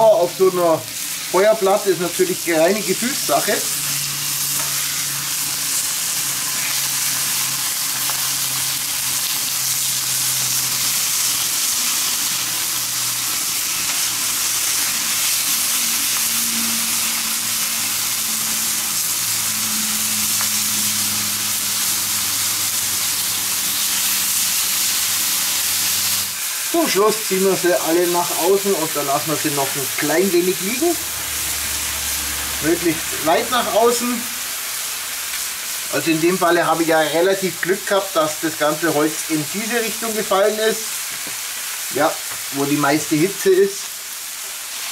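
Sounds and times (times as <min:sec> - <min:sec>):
steaks sizzling on hot plate: 0:00.0 - 0:44.9.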